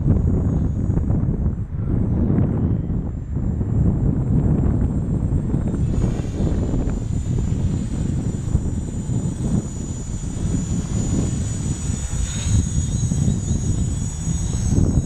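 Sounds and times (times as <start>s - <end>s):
quadcopter motor whine: 0.0s - 15.0s
wind rumble on microphone: 0.0s - 15.0s.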